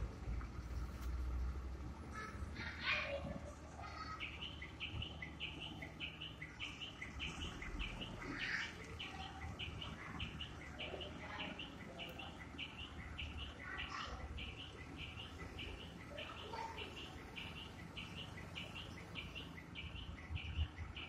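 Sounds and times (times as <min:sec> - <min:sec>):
truck engine low rumble: 0:00.0 - 0:21.0
bird chirping: 0:02.6 - 0:21.0.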